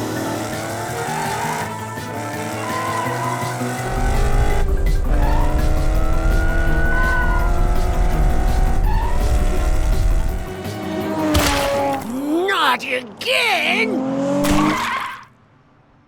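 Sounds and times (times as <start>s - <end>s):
background music: 0.0s - 13.9s.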